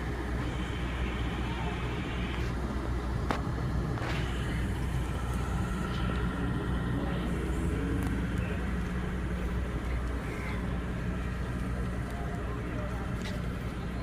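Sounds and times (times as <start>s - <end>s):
low motor hum: 0.0s - 14.0s
faint background voices: 0.1s - 14.0s.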